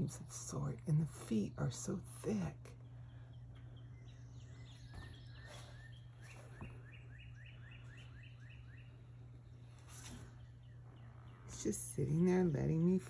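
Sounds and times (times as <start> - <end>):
songbird song: 0.0 - 13.0
steady low hum: 0.0 - 13.0.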